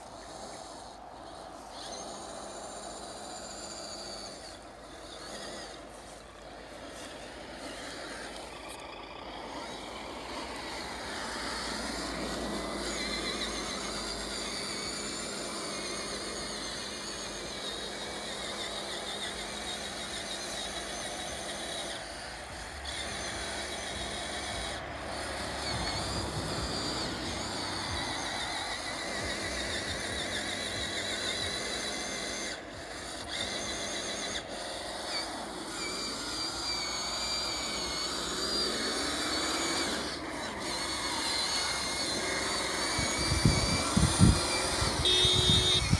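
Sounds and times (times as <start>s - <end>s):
rc truck motor whining: 0.0s - 45.9s.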